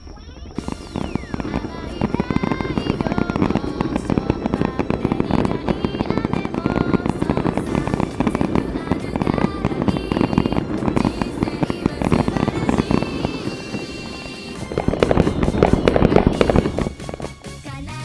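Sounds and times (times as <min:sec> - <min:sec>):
fireworks bursting and crackling: 0:00.0 - 0:18.0
upbeat music: 0:00.0 - 0:18.0.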